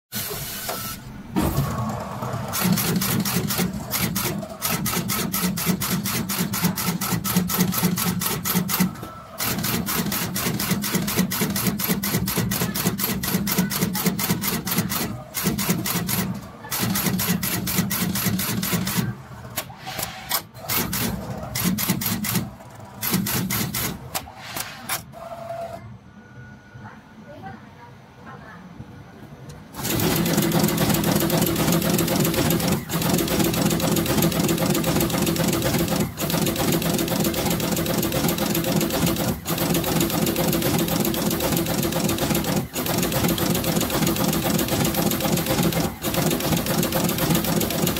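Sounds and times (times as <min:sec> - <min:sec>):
machine clacking rapidly: 0:01.6 - 0:19.7, 0:20.3 - 0:24.2, 0:29.8 - 0:47.9.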